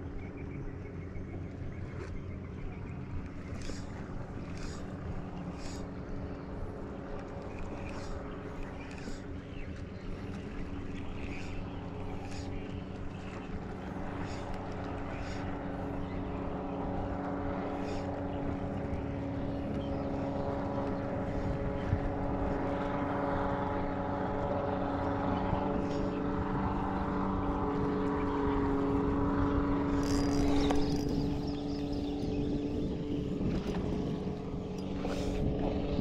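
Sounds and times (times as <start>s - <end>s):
motor droning: 0.0s - 36.0s.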